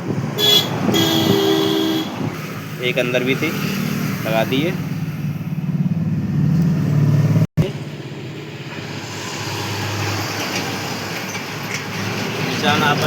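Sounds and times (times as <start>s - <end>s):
traffic rumble: 0.0s - 13.0s
vehicle engine humming: 0.0s - 13.0s.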